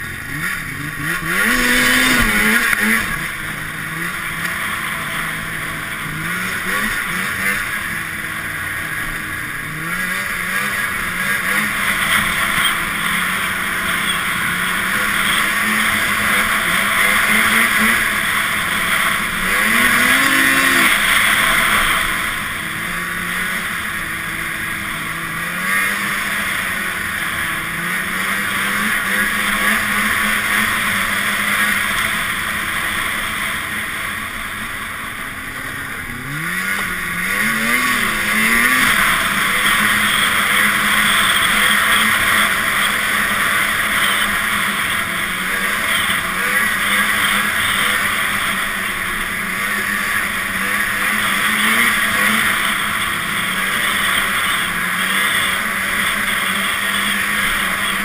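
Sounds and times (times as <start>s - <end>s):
snowmobile engine revving: 0.0s - 58.0s
steady rushing noise: 0.0s - 58.0s.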